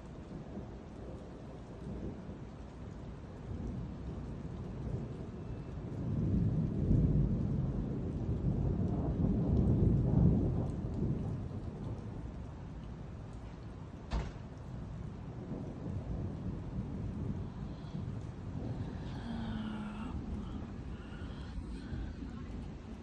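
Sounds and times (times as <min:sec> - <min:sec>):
steady rain: 0:00.0 - 0:23.0
rolling thunder: 0:00.3 - 0:13.1, 0:14.0 - 0:23.0.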